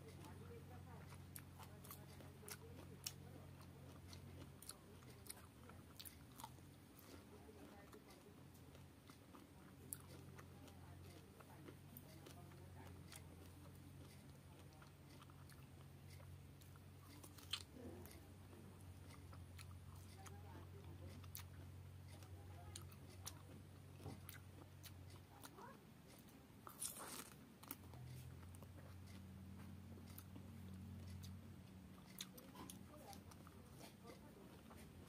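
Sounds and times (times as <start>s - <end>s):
chewing soft fruit: 0.0s - 35.0s
low steady hum: 0.0s - 35.0s.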